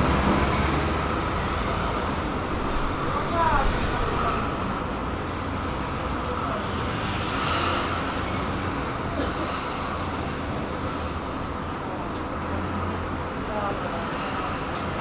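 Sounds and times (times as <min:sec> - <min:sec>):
road traffic passing: 0:00.0 - 0:15.0
tram interior low hum: 0:00.0 - 0:15.0.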